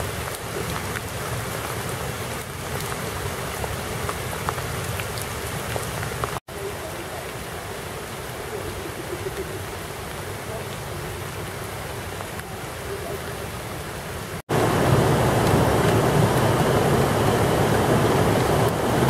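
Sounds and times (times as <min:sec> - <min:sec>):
heavy rain on water: 0:00.0 - 0:19.0.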